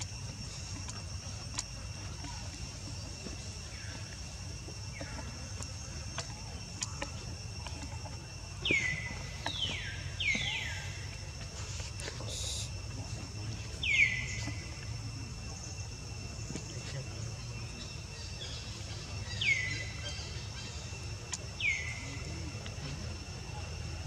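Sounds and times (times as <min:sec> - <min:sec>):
steady high insect drone: 0:00.0 - 0:24.0.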